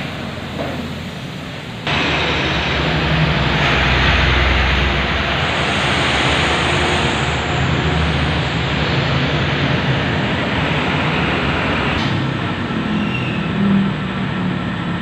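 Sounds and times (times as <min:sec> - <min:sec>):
loud rushing noise: 0:01.0 - 0:15.0.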